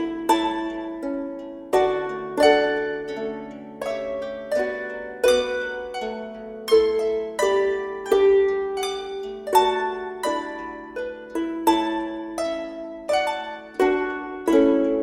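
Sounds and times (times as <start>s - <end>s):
harp playing slow melody: 0.0s - 15.0s.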